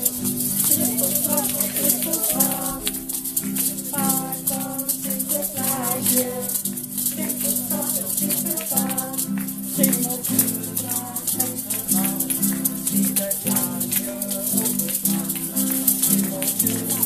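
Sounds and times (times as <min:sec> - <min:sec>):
plucked string chords and melody: 0:00.0 - 0:17.0
shakers rattling: 0:00.0 - 0:17.0.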